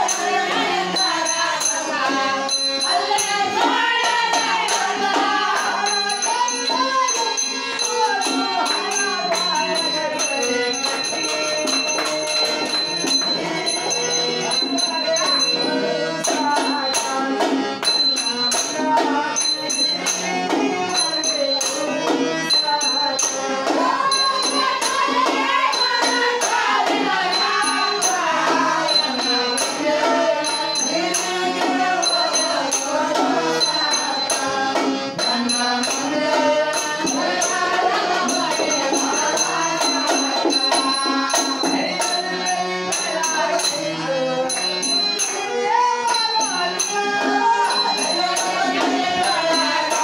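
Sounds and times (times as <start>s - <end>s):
hand cymbals ringing: 0.0s - 3.5s, 4.2s - 17.2s, 17.8s - 18.8s, 19.4s - 21.8s, 22.4s - 34.5s, 35.2s - 50.0s
harmonium: 0.0s - 50.0s
men singing devotional songs: 0.0s - 50.0s.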